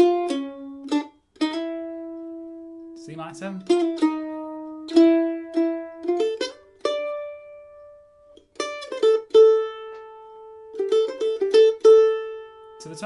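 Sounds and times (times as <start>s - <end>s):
mandolin jazz melody: 0.0s - 13.0s.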